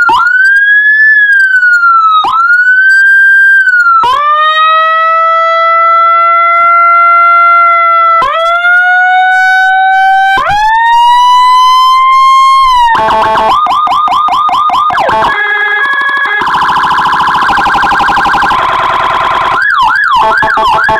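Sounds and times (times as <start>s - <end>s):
electronic police siren: 0.0s - 20.9s.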